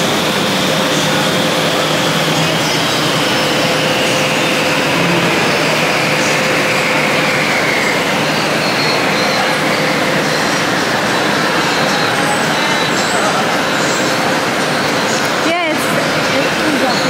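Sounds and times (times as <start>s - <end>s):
cable car drive whine: 0.0s - 17.0s
heavy rain pouring: 0.0s - 17.0s
steady low hum: 0.0s - 17.0s.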